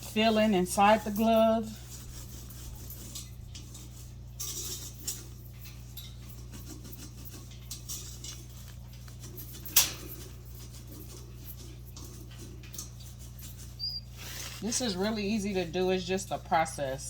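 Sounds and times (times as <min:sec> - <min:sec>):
scrubber on metal cage bars: 0:00.0 - 0:16.4
steady low hum: 0:00.0 - 0:17.0.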